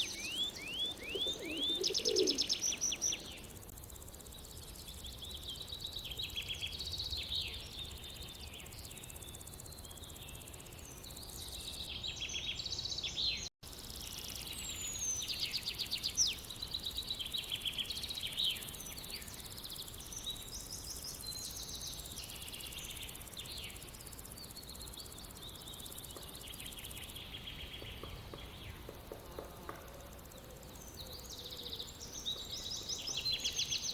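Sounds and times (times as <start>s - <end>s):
birds chirping and trilling: 0.0s - 29.2s, 29.9s - 33.9s.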